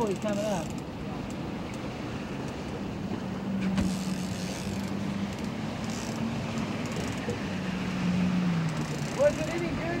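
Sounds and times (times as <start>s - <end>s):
boat motor humming: 0.0s - 10.0s
water noise: 0.0s - 10.0s
wind: 0.0s - 10.0s.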